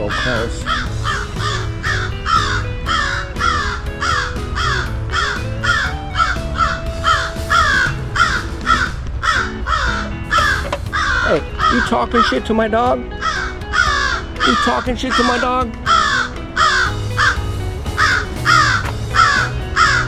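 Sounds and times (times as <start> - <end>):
crow cawing: 0.0 - 12.5, 13.2 - 20.0
background music: 0.0 - 20.0.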